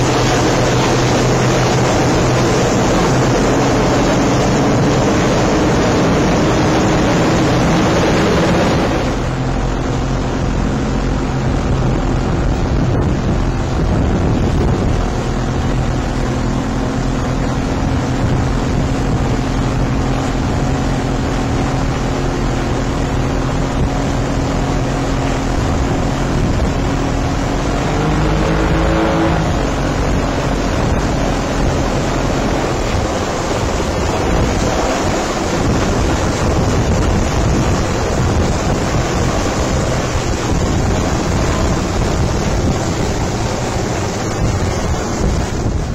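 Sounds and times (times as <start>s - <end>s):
outboard engine running: 0.0s - 45.9s
water rushing past hull: 0.0s - 45.9s
wind buffeting microphone: 0.0s - 45.9s.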